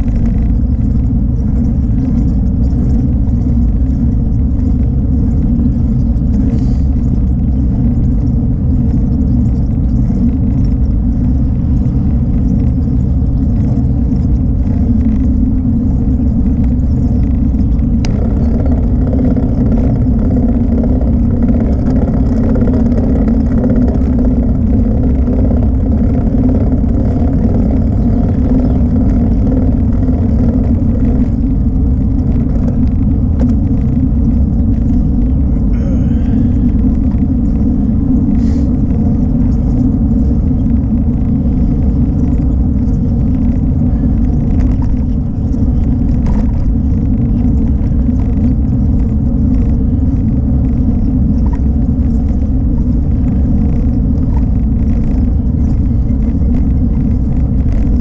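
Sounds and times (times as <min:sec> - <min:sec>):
wind rumble on microphone: 0:00.0 - 0:58.0.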